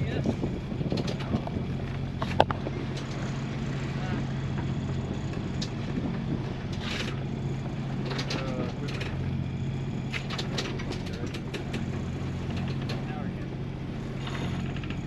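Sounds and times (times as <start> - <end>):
boat engine humming: 0.0 - 15.0
deck gear clicking and rattling: 0.0 - 15.0.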